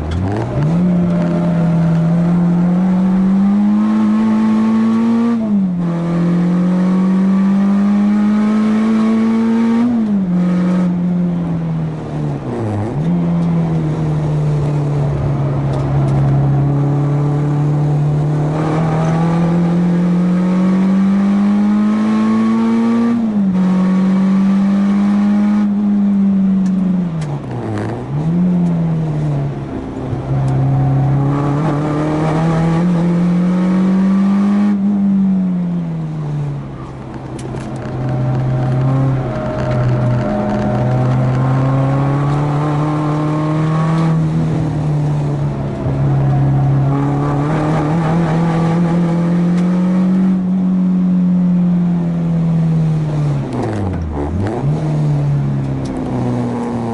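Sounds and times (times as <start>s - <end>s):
car engine at full throttle: 0.0s - 56.9s.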